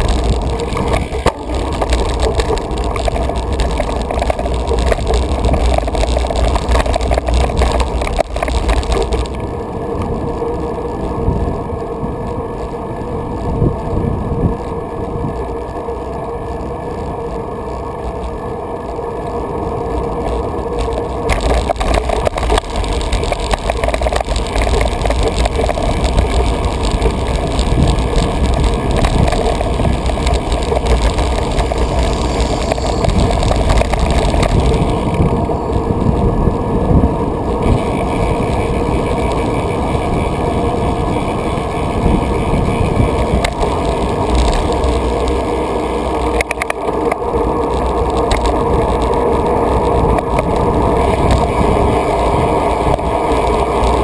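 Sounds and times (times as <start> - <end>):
wind on microphone: 0.0 - 18.4, 19.0 - 54.0
bike rattling over pavement: 0.0 - 54.0.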